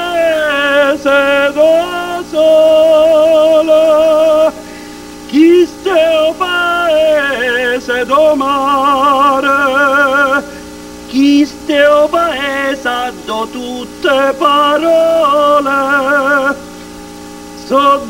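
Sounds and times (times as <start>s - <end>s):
man singing with vibrato: 0.0s - 18.0s.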